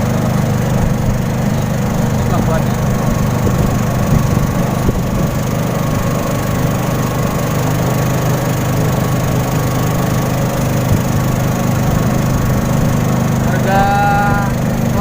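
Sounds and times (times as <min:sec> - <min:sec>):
boat engine running steadily: 0:00.0 - 0:15.0.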